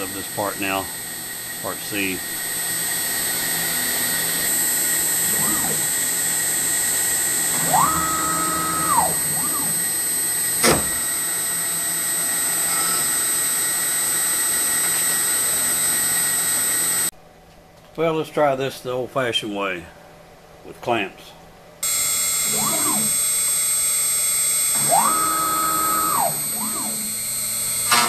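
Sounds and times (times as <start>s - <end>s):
cnc router rushing whine: 0.0s - 17.1s, 21.8s - 28.0s
stepper motors rising and falling: 0.0s - 17.1s, 21.8s - 28.0s.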